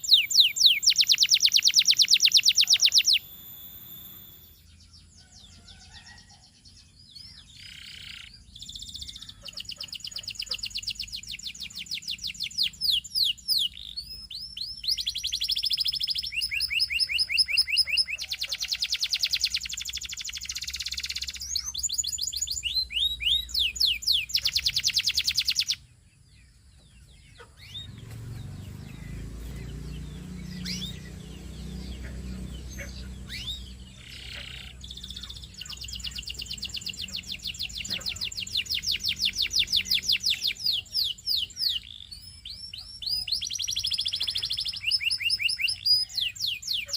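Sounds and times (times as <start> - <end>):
canary singing trills: 0.0 - 46.9
faint bird chirps: 0.0 - 46.9.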